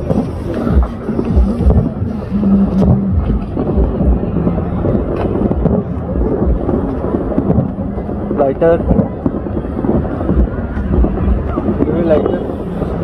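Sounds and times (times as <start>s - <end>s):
distant fireworks booms: 0.0s - 13.0s
steady rumble: 0.0s - 13.0s.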